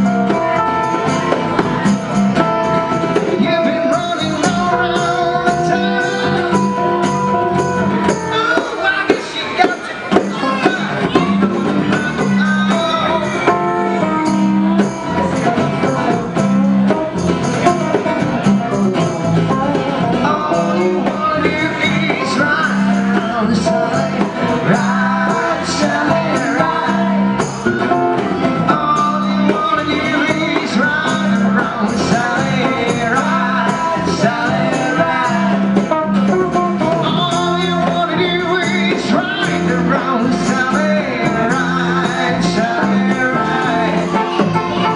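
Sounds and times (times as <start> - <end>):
bongos: 0.0 - 44.9
electric guitar: 0.0 - 44.9
harmonica melody: 0.0 - 44.9
strummed acoustic guitars: 0.0 - 44.9.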